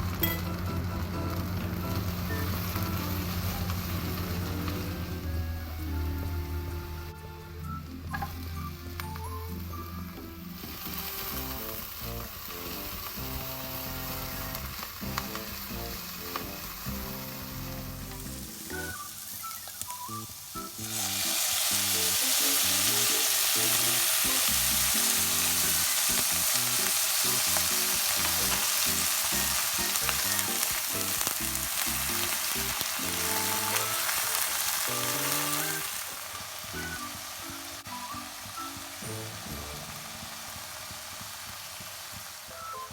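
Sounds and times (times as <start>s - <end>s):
food sizzling in hot oil: 0.0s - 6.6s, 8.1s - 42.9s
background music: 0.0s - 41.5s, 42.4s - 42.9s.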